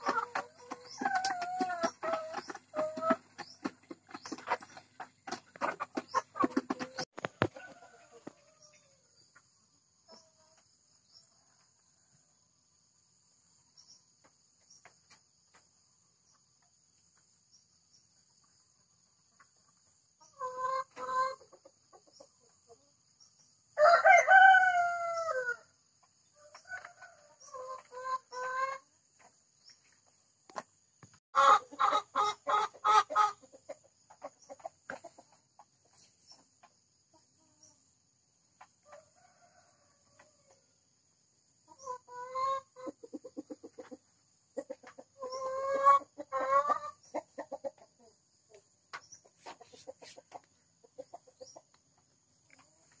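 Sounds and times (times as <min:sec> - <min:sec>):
hens cackling and clucking: 0:00.0 - 0:17.3, 0:18.1 - 0:30.8, 0:31.4 - 0:53.0.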